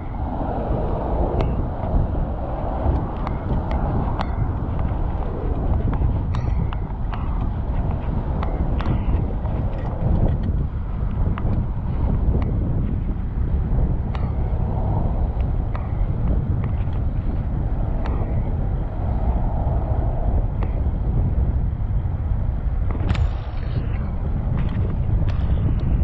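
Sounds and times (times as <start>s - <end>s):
passing city traffic: 0.0s - 26.0s
wind rumble on microphone: 0.0s - 26.0s.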